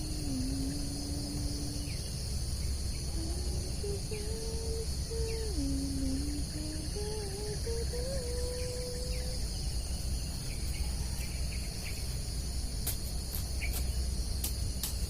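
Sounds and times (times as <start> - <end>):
thin wavering whine: 0.0 - 12.7
crickets and insects chorus: 0.0 - 15.0.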